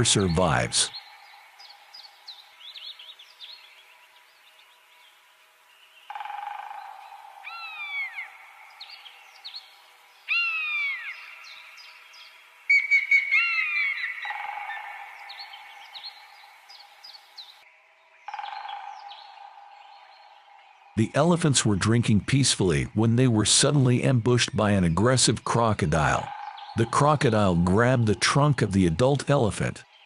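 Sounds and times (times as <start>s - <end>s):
birds chirping and whistling: 0.0s - 4.7s, 6.8s - 17.6s, 18.3s - 30.0s.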